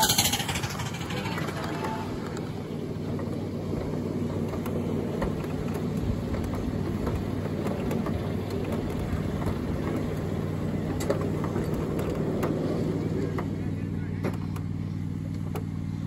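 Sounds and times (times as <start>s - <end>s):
miniature train wheels rumbling on rail: 0.0s - 15.8s
low hum: 0.0s - 16.0s
wheels clicking over rail joints: 0.0s - 16.0s.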